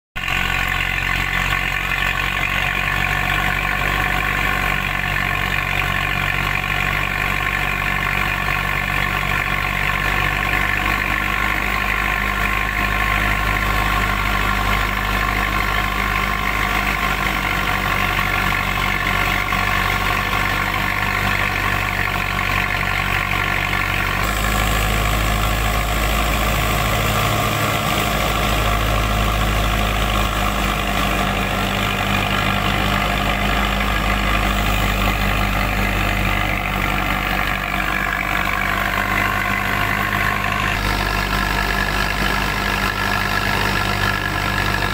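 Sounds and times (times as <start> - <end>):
thresher mechanical hum: 0.2 - 44.9
tractor diesel engine running: 0.2 - 44.9.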